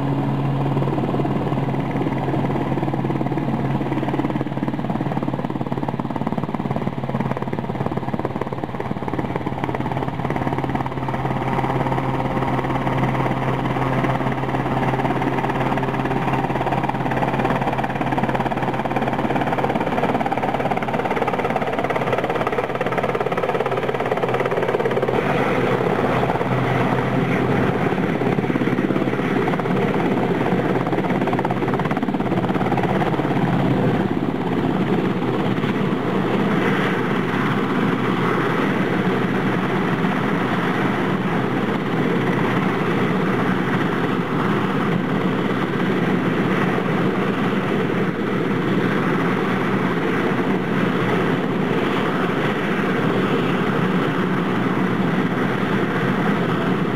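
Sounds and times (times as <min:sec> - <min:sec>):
helicopter engines and rotor running: 0:00.0 - 0:56.9.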